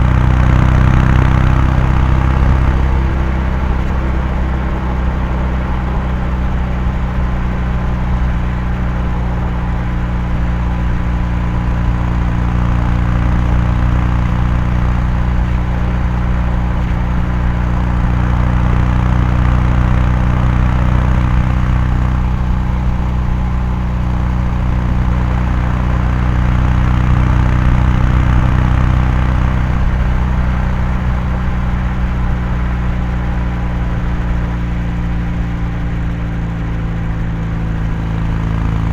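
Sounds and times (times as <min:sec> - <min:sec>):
motorcycle exhaust cruising: 0:00.0 - 0:38.9.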